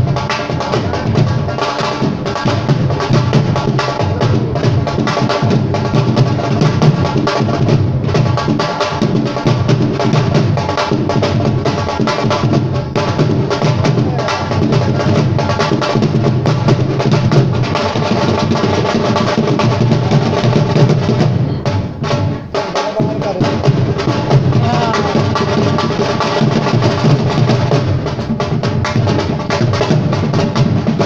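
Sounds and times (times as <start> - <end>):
fast drumming: 0.0 - 31.0.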